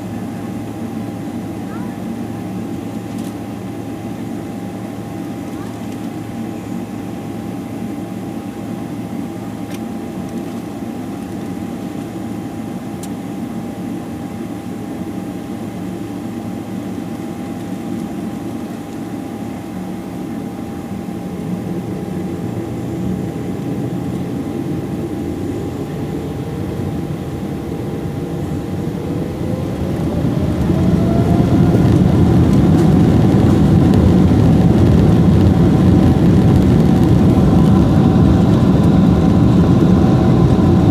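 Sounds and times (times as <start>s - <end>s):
jet engines whine and rumble: 0.0s - 40.9s.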